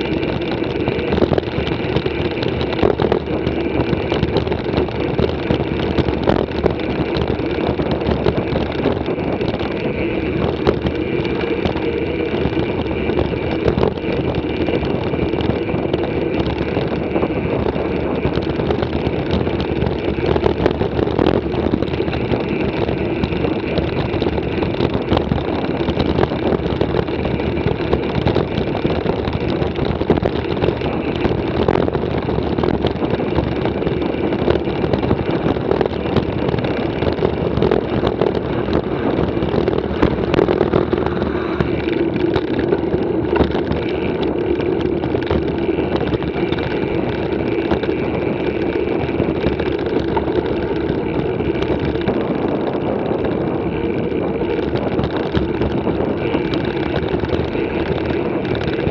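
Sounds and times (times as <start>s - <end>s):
bike tyres rolling on pavement: 0.0s - 58.9s
wind on microphone: 0.0s - 58.9s.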